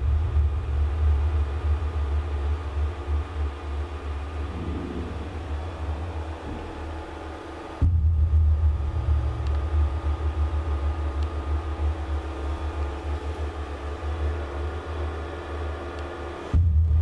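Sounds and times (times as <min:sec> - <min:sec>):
low fluttering rumble: 0:00.0 - 0:15.1
steady hum tones: 0:00.0 - 0:17.0.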